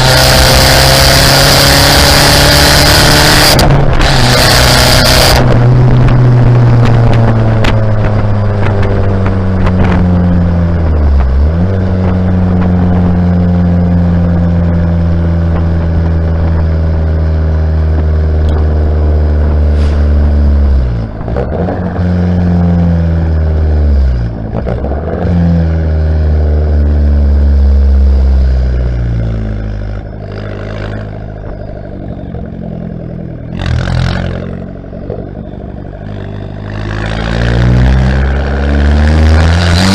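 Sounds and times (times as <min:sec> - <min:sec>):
car exhaust under load: 0:00.0 - 0:39.9.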